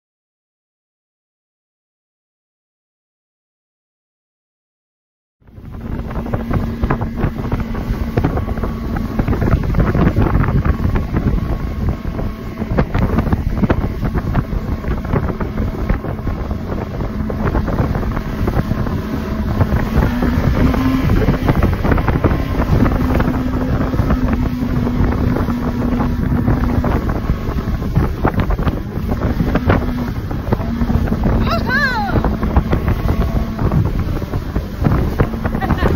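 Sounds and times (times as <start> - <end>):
motorboat engine running: 5.4 - 35.9
wind buffeting microphone: 5.4 - 35.9.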